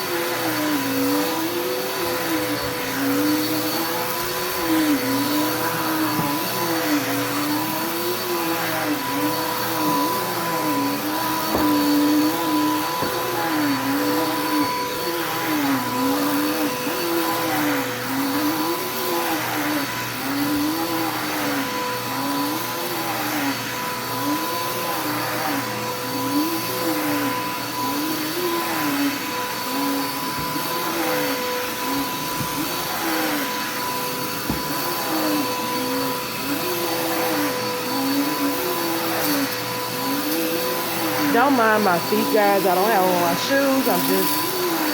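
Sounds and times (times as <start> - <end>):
vacuum cleaner on carpet: 0.0 - 44.9.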